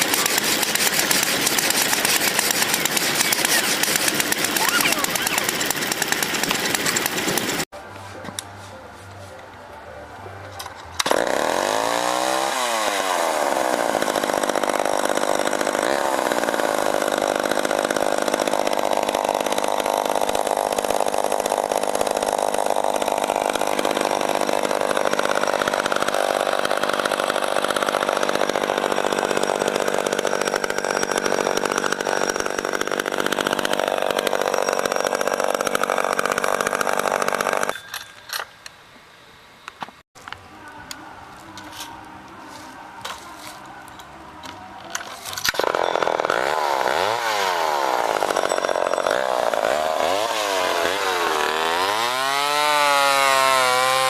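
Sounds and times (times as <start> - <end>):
chainsaw engine running: 0.0 - 7.7, 11.0 - 37.7, 42.5 - 54.0.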